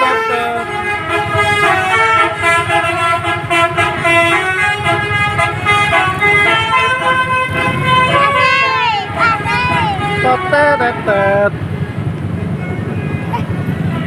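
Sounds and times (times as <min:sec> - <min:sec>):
multi-tone air horn tune: 0:00.0 - 0:11.5.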